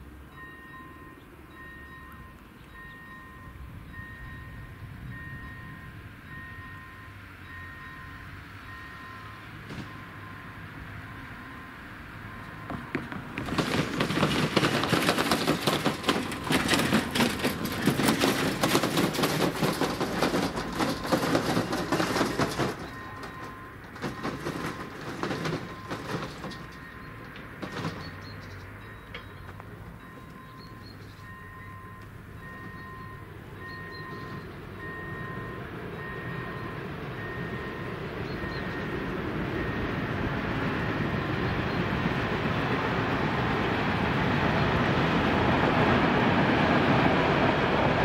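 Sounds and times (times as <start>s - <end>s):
crossing warning bell dinging: 0.0s - 44.2s
train passing with wheel clatter: 0.0s - 48.0s.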